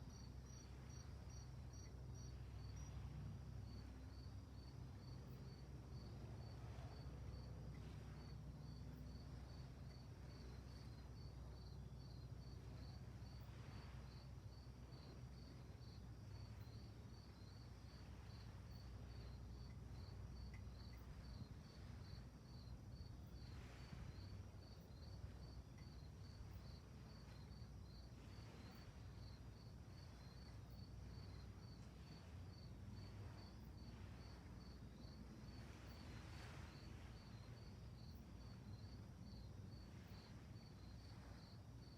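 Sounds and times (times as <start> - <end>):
crickets chirping: 0.0 - 41.9
low steady rumble: 0.0 - 41.9.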